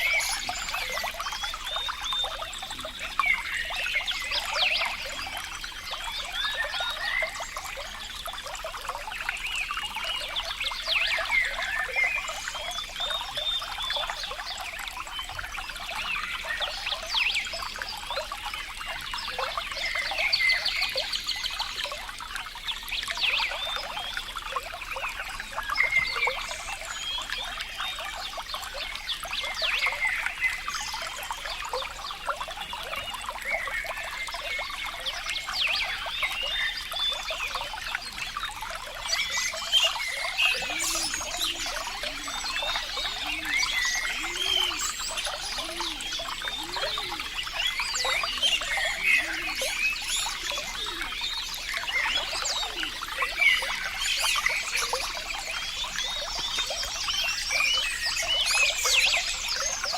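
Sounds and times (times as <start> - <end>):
water trickling and bubbling: 0.0 - 59.9.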